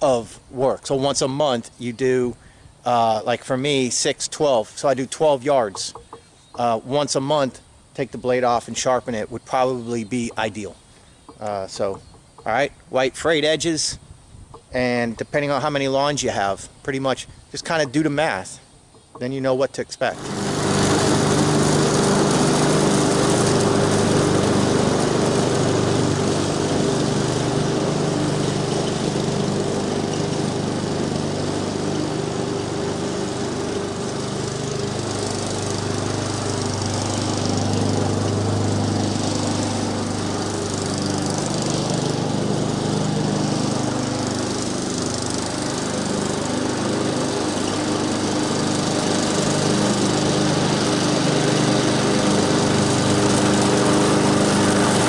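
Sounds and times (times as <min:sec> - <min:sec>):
lawn mower engine running: 0:00.0 - 0:13.6, 0:17.0 - 0:19.4, 0:20.0 - 0:55.0.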